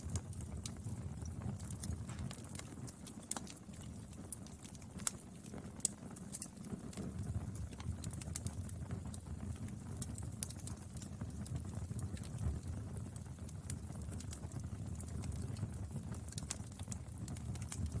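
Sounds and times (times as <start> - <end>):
rumble of flames: 0.0 - 18.0
wood crackling and popping: 0.0 - 18.0.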